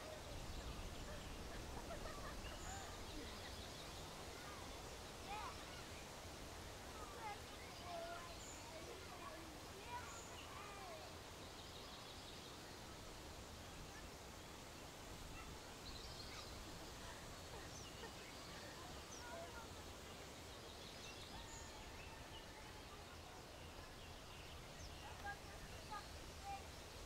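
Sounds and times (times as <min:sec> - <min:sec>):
small birds chirping: 0:00.0 - 0:27.0
soft steady hiss: 0:00.0 - 0:27.0.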